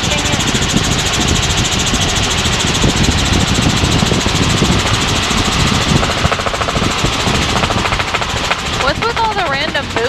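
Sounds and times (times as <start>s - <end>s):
helicopter engine and rotor noise: 0.0s - 10.0s.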